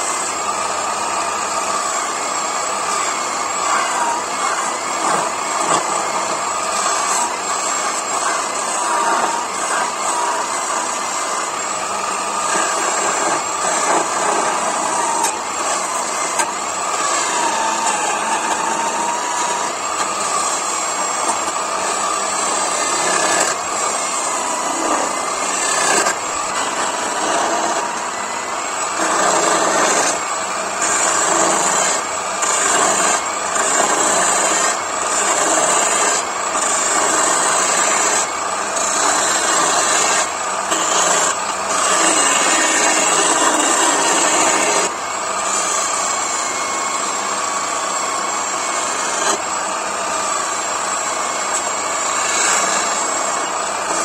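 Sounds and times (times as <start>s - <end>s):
chisel scraping spinning wood: 0.0s - 54.0s
lathe motor running: 0.0s - 54.0s.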